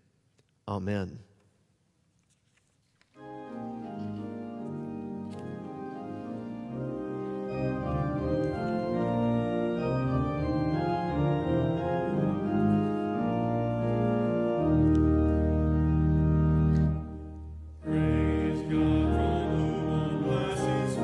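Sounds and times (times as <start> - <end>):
church organ chords: 3.2 - 21.0.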